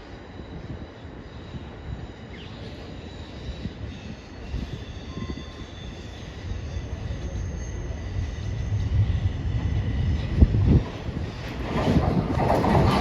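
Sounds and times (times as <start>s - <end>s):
train wheels rumbling on rails: 0.0s - 13.0s
high wheel squeal: 0.2s - 12.0s.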